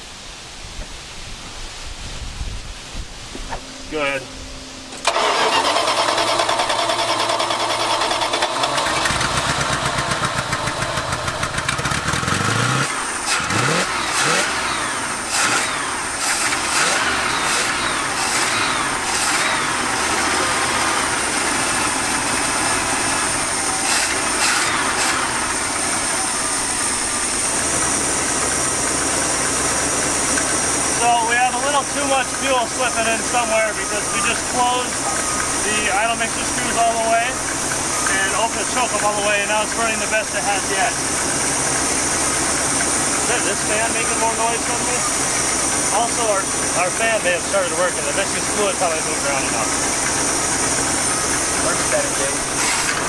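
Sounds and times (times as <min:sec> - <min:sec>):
engine revving: 0:05.0 - 0:53.0.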